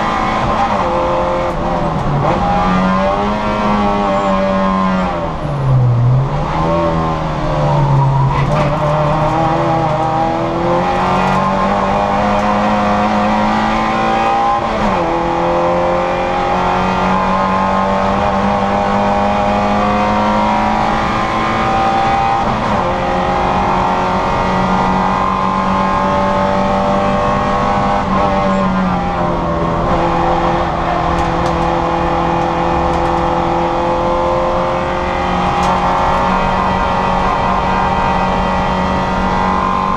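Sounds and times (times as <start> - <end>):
car engine racing: 0.0 - 39.9.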